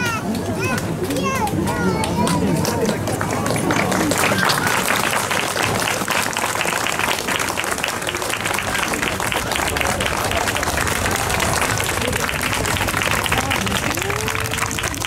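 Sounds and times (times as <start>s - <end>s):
crowd clapping: 0.0s - 15.0s
voices: 0.0s - 15.0s.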